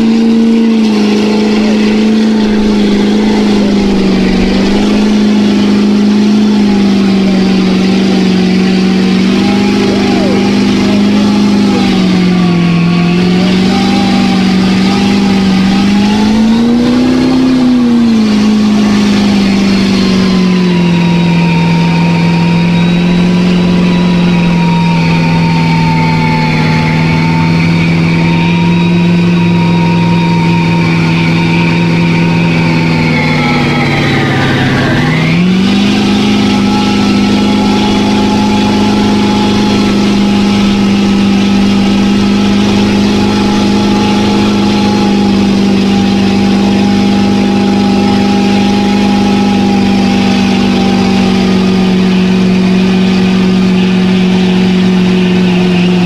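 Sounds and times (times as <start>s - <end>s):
tires churning through mud: 0.0s - 56.0s
truck engine revving: 0.0s - 56.0s.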